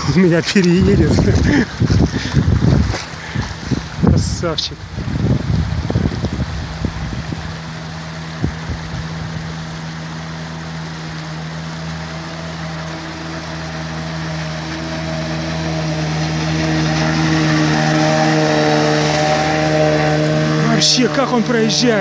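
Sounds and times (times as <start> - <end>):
outboard motor running: 0.0 - 22.0
river rushing: 0.0 - 22.0.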